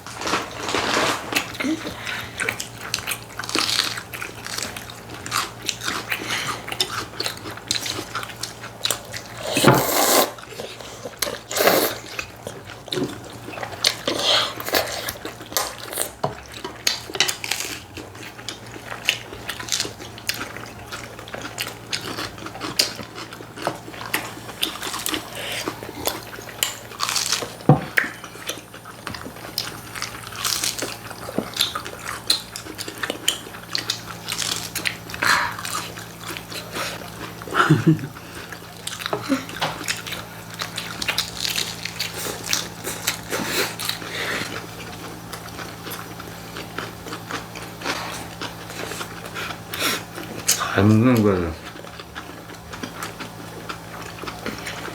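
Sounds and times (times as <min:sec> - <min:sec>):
people biting and chewing food: 0:00.0 - 0:54.9.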